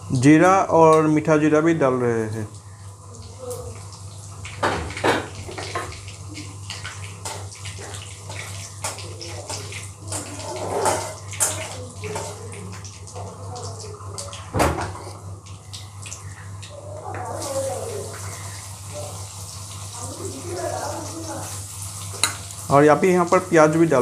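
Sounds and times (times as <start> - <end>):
spices sizzling in hot oil: 2.2 - 24.0.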